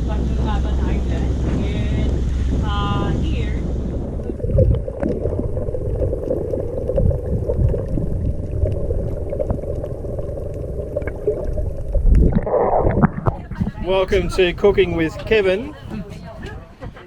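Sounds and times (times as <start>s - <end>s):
water rushing past boat: 0.0s - 16.9s
wind buffeting microphone: 0.0s - 17.0s.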